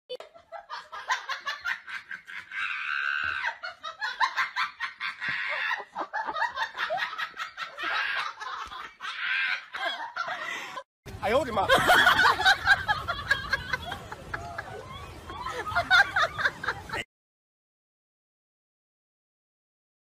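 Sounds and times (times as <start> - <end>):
person laughing: 0.1 - 10.8, 11.6 - 17.0.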